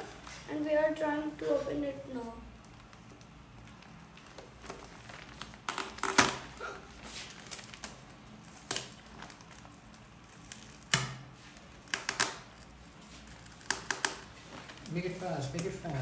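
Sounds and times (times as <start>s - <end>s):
packing tape peeling: 2.6s - 16.0s
plastic mailer bag crinkling: 2.6s - 16.0s.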